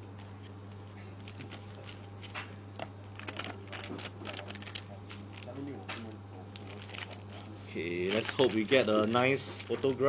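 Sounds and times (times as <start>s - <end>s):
low electrical hum: 0.0s - 10.0s
foil wrappers crinkling: 0.2s - 10.0s.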